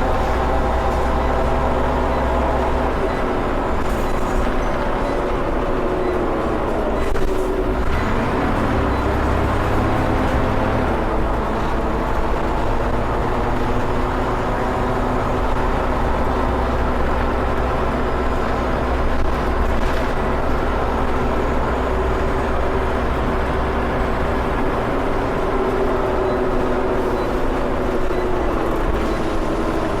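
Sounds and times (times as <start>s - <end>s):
bus diesel engine under load: 0.0s - 30.0s.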